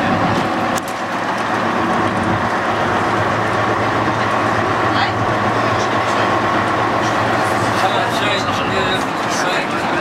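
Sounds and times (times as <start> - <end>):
bus diesel engine running: 0.0 - 10.0
road noise: 0.0 - 10.0.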